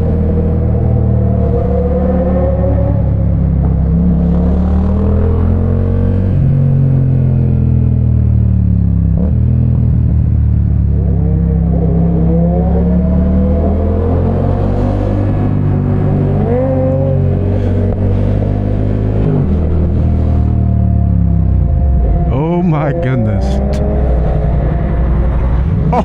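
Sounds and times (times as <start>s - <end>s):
wind and road noise: 0.0s - 22.3s.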